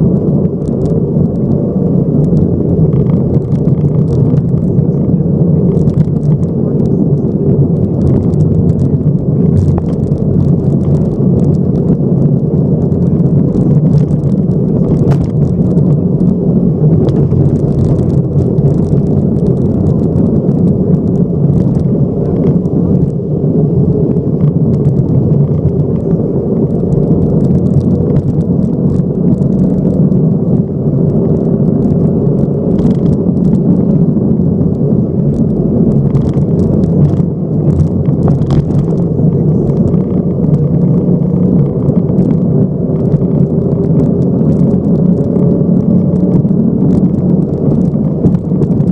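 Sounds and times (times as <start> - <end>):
car engine running hard: 0.0 - 48.9
gravel hitting car: 0.0 - 48.9.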